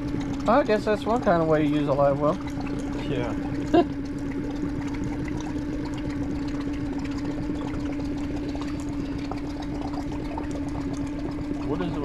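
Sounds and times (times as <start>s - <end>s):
boat motor humming: 0.0s - 12.0s
water pouring and splashing: 0.0s - 12.0s.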